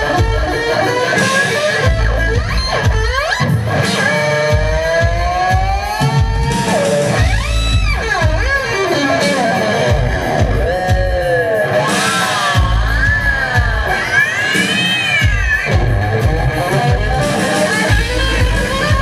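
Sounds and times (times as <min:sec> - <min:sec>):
electric guitar gliding notes: 0:00.0 - 0:19.0.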